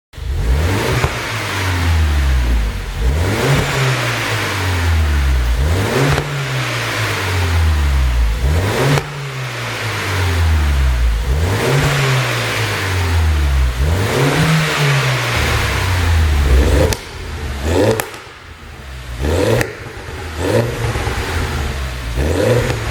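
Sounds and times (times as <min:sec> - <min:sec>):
car engine revving: 0:00.2 - 0:22.9
exhaust popping and crackling: 0:00.2 - 0:22.9.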